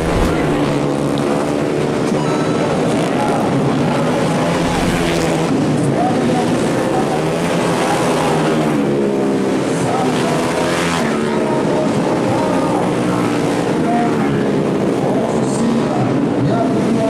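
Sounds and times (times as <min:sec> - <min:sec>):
motorcycles passing at high revs: 0:00.0 - 0:17.0.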